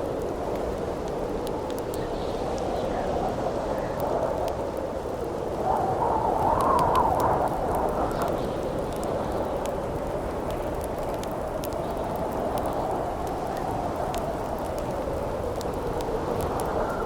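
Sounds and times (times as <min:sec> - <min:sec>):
campfire crackling: 0:00.0 - 0:17.0
howling wind: 0:00.0 - 0:17.0.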